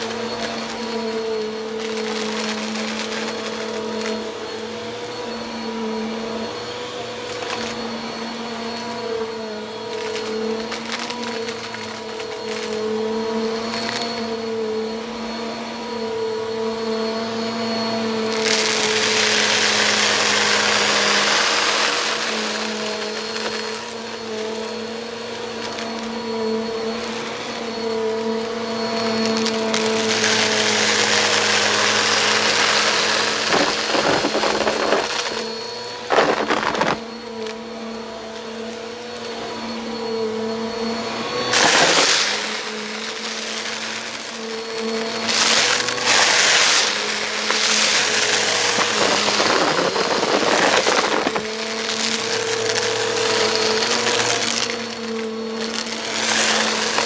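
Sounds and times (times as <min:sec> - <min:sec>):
vacuum cleaner motor humming: 0:00.0 - 0:57.0.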